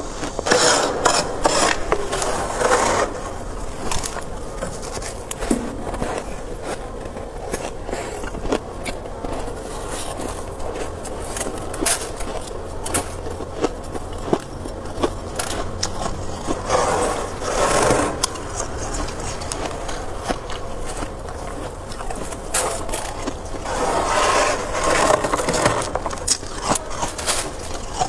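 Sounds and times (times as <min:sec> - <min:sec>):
spoon scraping frost: 0:00.0 - 0:28.0
crunching clicks: 0:00.1 - 0:28.0.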